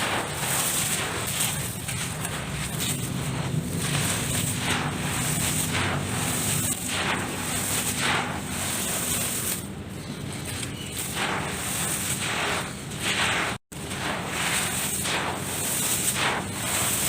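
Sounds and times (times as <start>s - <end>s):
dirt and chalk crushed by hand: 0.0s - 17.0s.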